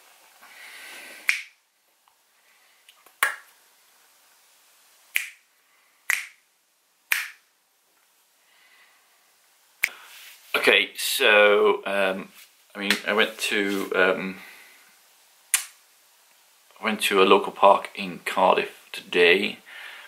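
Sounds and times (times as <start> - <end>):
faint room hiss: 0.0 - 20.0.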